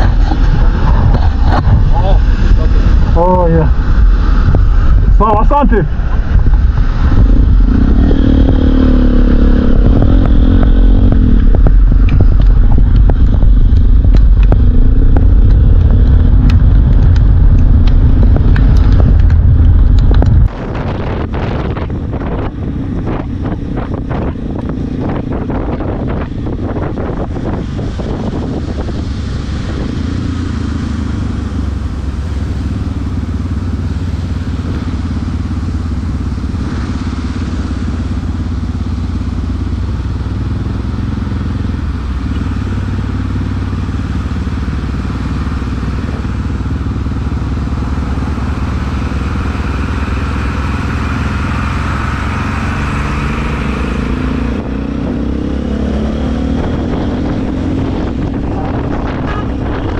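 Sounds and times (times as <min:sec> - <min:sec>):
motorcycle engine running: 0:00.0 - 0:59.9
wind on microphone: 0:00.0 - 0:59.9.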